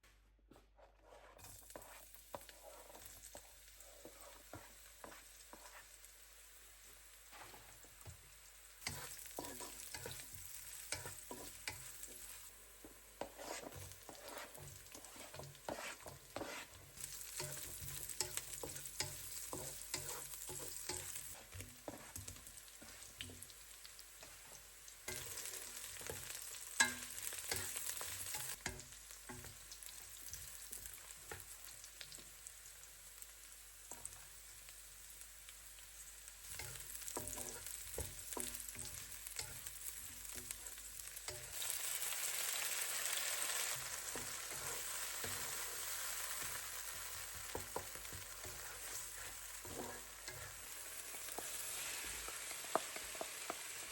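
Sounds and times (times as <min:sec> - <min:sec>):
food sizzling in a pan: 0:01.0 - 0:53.9.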